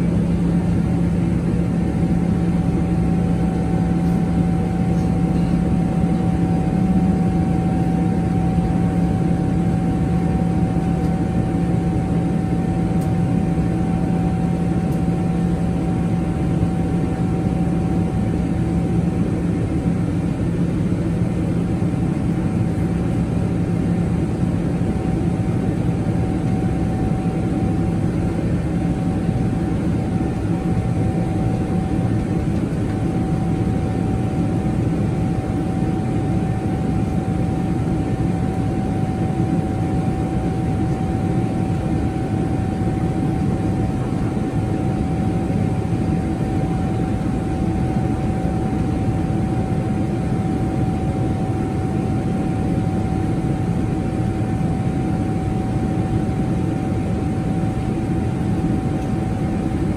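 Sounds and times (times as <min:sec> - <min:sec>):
jet engines humming: 0:00.0 - 0:59.9.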